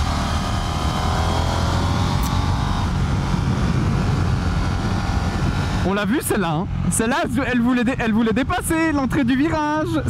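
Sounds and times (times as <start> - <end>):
motorcycle engine accelerating: 0.0 - 8.4
wind rumble on microphone: 0.0 - 10.0.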